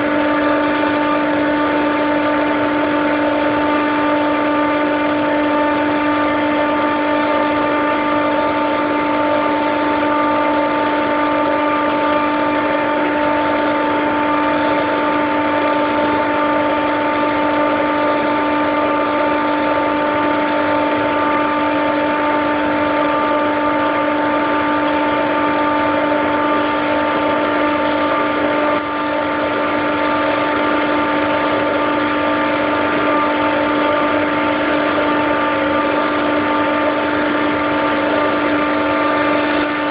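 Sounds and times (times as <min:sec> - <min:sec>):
compressor whine: 0:00.0 - 0:39.9
loud machinery hum: 0:00.0 - 0:39.9.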